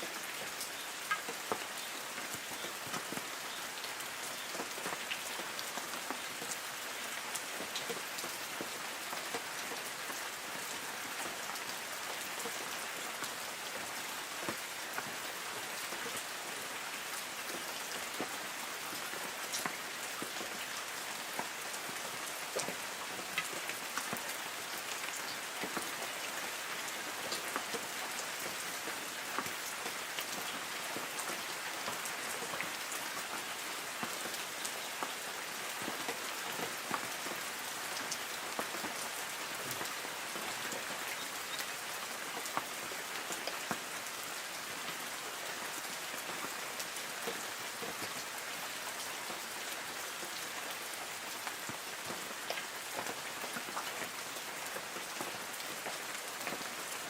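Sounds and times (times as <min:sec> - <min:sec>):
light rain on trees: 0:00.0 - 0:57.0.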